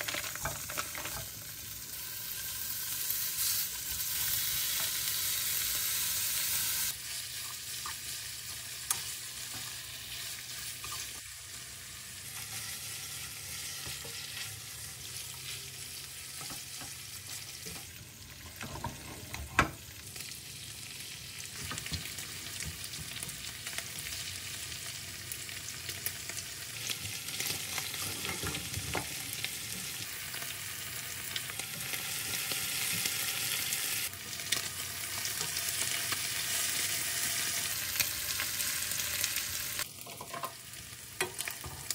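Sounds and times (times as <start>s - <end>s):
meat sizzling in a pan: 0.0s - 41.9s.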